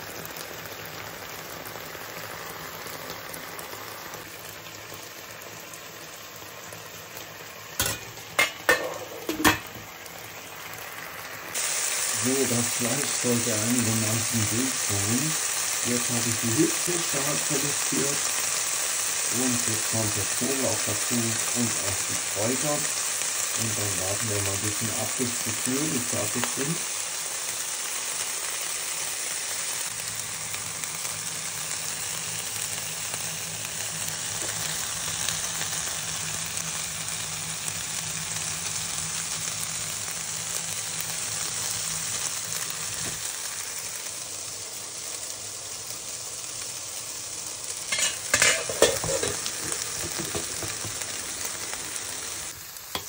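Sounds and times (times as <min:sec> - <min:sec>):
chicken sizzling in frying pan: 0:00.0 - 0:53.0.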